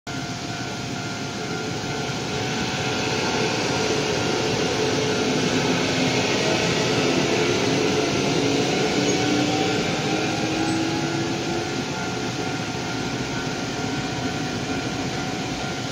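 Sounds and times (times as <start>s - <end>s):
train rumbling: 0.1s - 15.9s.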